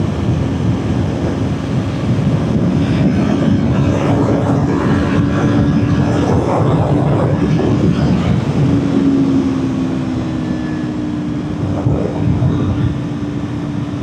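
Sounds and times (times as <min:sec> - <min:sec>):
motorcycle engine droning: 0:00.0 - 0:14.0
wind and road noise: 0:00.0 - 0:14.0.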